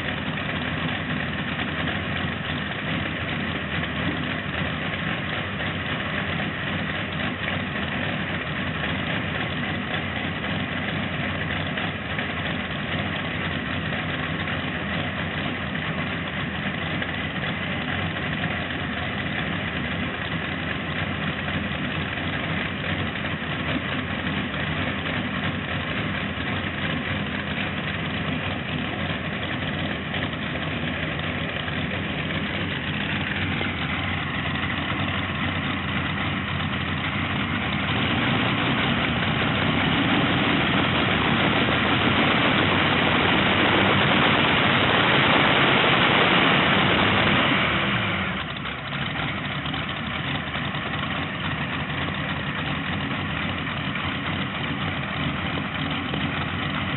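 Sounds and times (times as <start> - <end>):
tractor engine idling and revving: 0.0 - 56.9.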